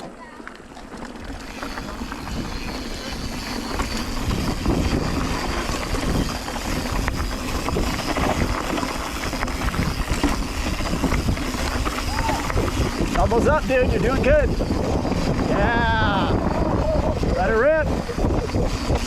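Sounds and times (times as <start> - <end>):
bike tyres on dirt: 0.0 - 19.0
wind rumbling on microphone: 0.9 - 19.0.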